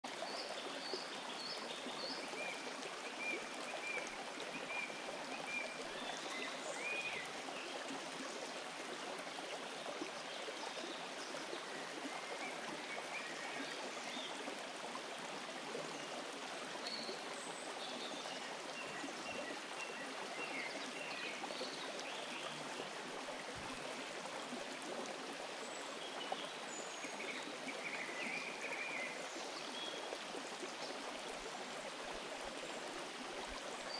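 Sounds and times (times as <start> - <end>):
stream running over stones: 0.0 - 33.9.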